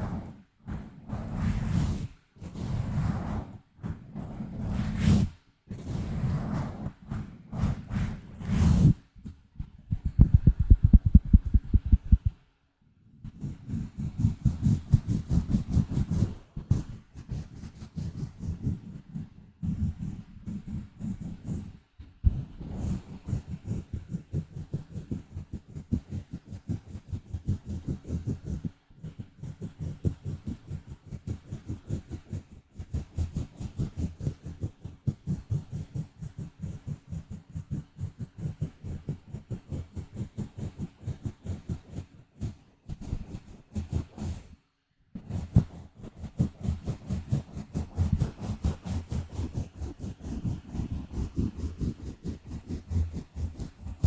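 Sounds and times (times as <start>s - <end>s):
fingers scratching on microphone: 0.0s - 12.4s, 13.2s - 44.5s, 45.2s - 54.0s.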